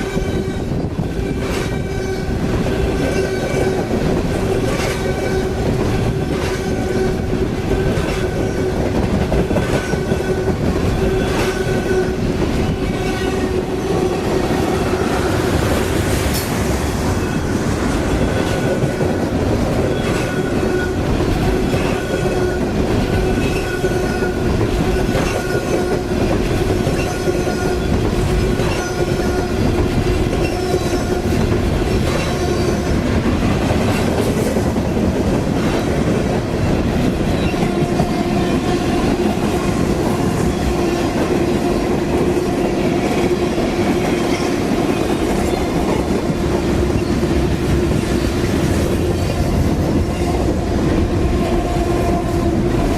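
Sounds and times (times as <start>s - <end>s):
freight train rolling past: 0.0s - 52.9s.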